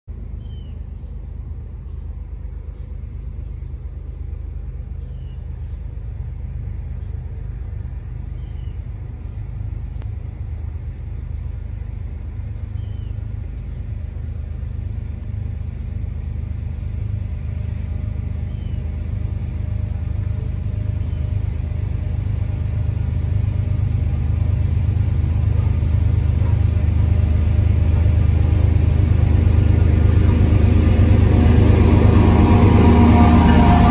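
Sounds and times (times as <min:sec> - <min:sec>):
freight train rumble: 0:00.0 - 0:33.9.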